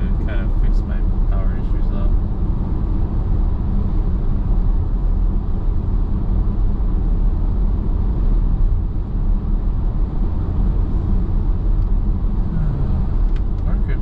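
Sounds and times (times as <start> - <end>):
tyre and road noise in car: 0.0 - 14.0.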